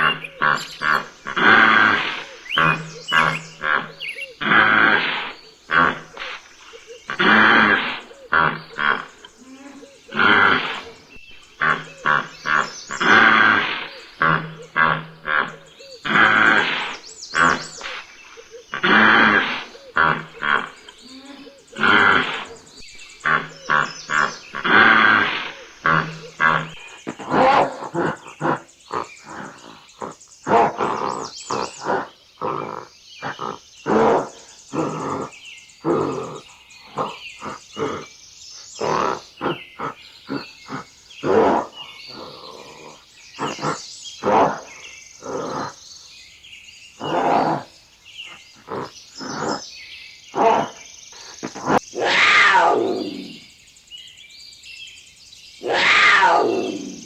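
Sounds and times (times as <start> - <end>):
wild animal harsh calls: 0.0 - 38.2, 38.8 - 45.8, 47.0 - 47.7, 48.3 - 49.7, 50.3 - 53.5, 55.6 - 57.0.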